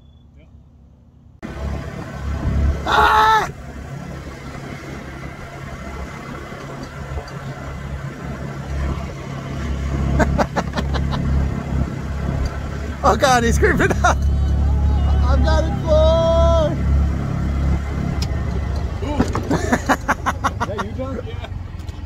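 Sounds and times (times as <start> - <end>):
golf cart hum and rumble: 0.0 - 22.0.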